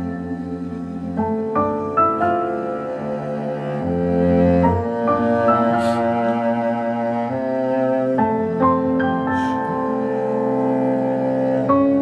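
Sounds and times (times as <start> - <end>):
low bowed string notes: 0.0 - 12.0.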